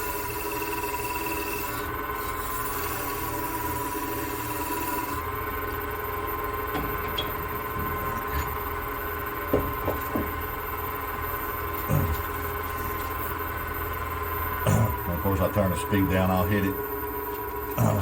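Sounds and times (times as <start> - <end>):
wood lathe humming: 0.0 - 18.0.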